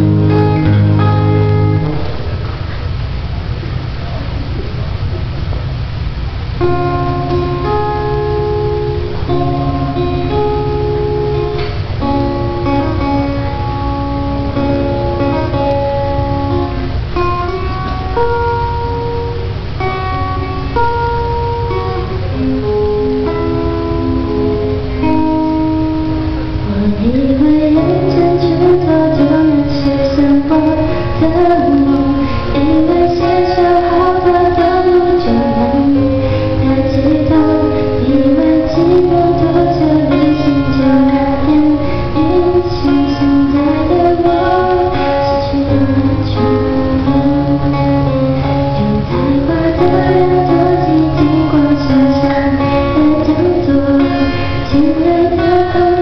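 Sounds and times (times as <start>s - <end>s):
woman singing into a microphone: 0.0s - 1.8s, 6.6s - 19.4s, 20.1s - 56.0s
fingerpicked acoustic guitar: 0.0s - 56.0s.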